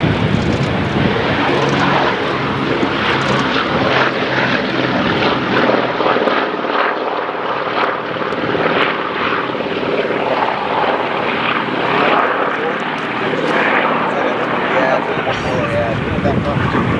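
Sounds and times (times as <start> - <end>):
propeller aircraft engine drone: 0.0 - 16.9.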